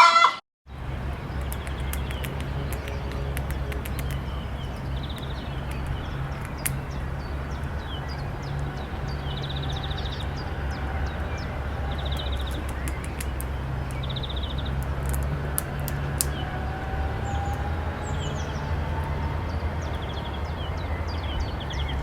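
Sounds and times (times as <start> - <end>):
small birds chirping: 0.7 - 22.0
steady low hum: 0.7 - 22.0
buzzy bird trills: 0.9 - 18.6.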